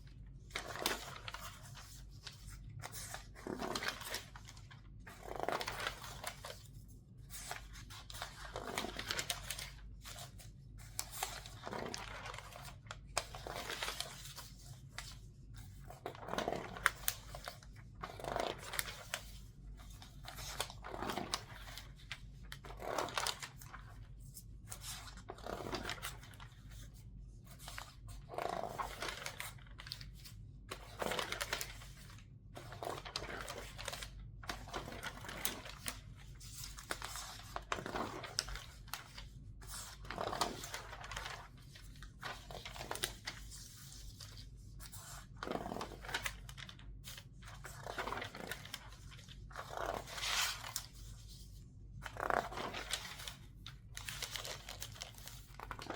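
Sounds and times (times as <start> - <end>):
paper crinkling: 0.1 - 55.9
newspaper pages turning: 0.2 - 55.9.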